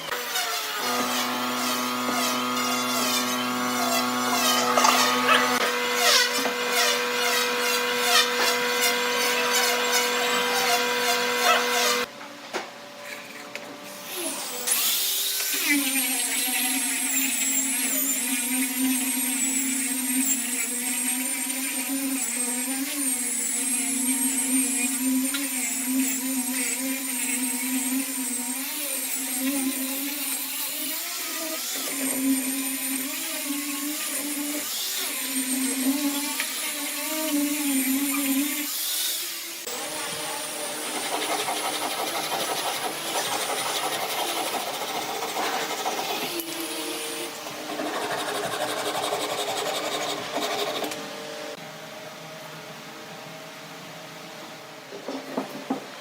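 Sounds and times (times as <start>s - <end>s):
power tool motor running: 0.0s - 12.1s, 14.0s - 51.6s
rough noisy tool sound: 0.0s - 12.1s, 13.0s - 51.6s.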